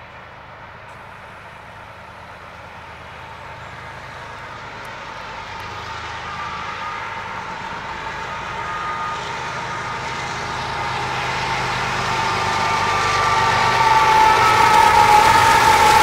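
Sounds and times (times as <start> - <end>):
locomotive engines droning: 0.0 - 16.0.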